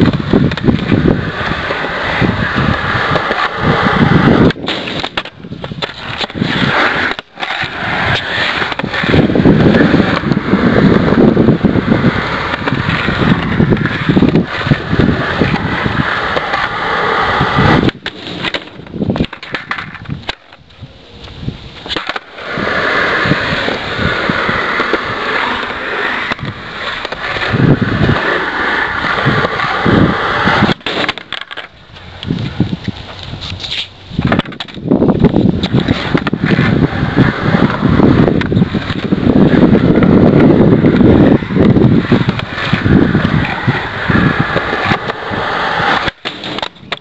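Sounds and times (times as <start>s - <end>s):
skateboard clattering on concrete: 0.0s - 20.7s, 21.8s - 47.0s
skateboard wheels rolling on concrete: 0.0s - 47.0s.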